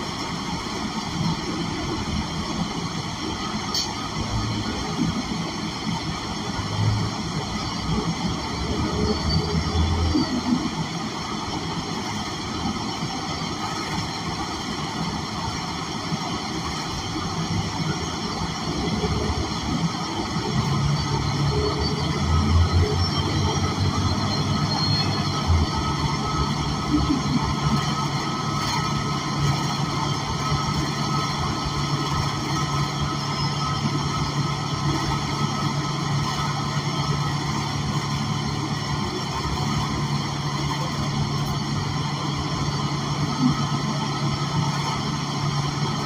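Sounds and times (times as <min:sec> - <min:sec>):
bus engine humming: 0:00.0 - 0:46.0.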